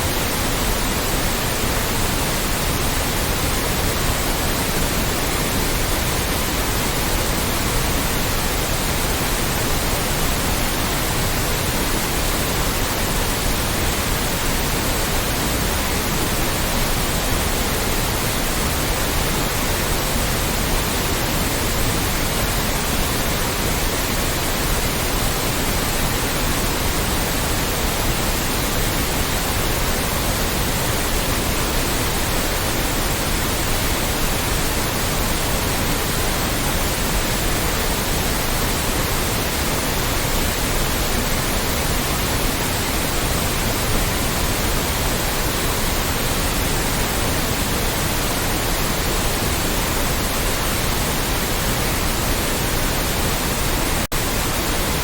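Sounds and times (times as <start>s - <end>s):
loud steady synthetic noise: 0.0s - 55.0s.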